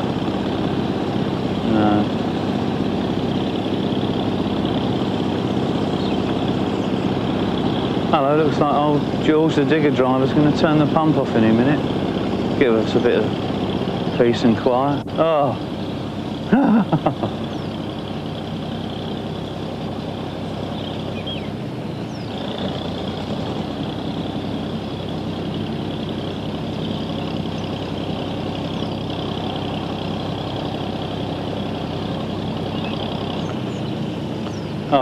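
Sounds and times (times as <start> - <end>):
water pump engine drone: 0.0 - 35.0.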